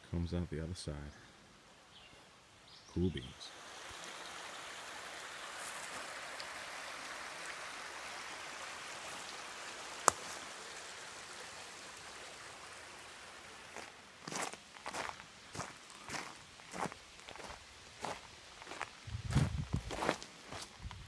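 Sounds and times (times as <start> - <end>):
stream running over rocks: 2.5 - 21.0.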